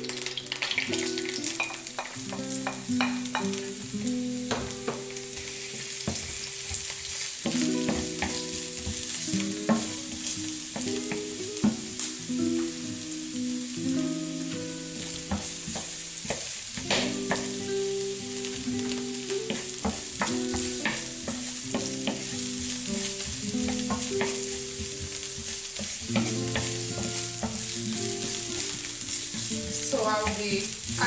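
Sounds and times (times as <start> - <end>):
onions sizzling in oil: 0.0 - 31.0.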